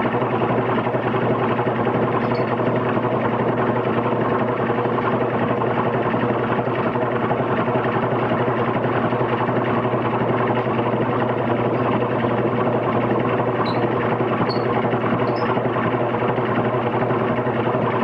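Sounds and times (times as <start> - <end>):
mechanical whirring and clatter: 0.0 - 18.0.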